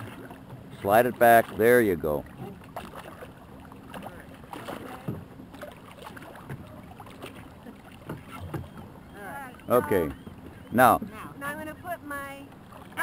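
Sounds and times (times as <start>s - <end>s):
paddles knocking on hulls: 0.0s - 13.0s
water splashing around kayaks: 0.0s - 13.0s.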